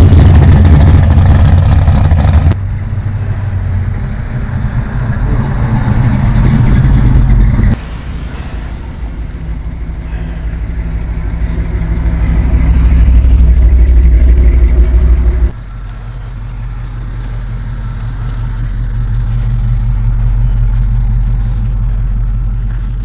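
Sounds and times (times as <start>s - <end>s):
car engines rumbling: 0.0s - 23.0s.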